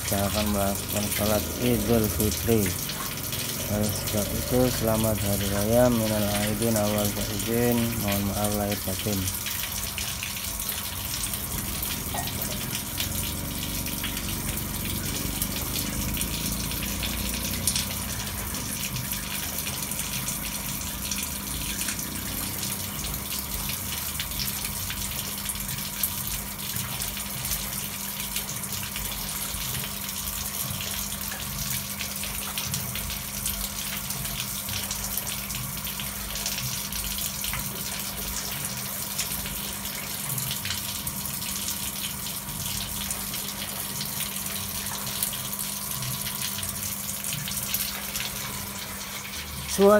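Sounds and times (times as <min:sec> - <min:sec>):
water splashing into pond: 0:00.0 - 0:49.9.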